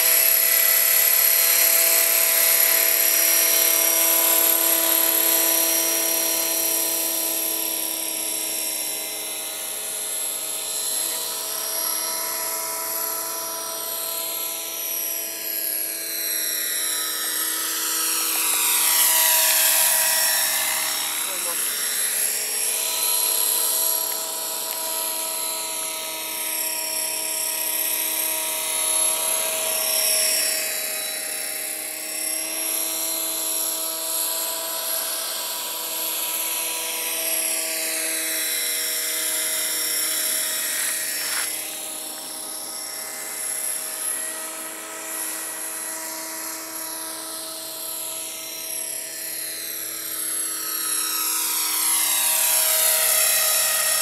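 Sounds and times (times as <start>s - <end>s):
model helicopter motor whine: 0.0s - 54.0s.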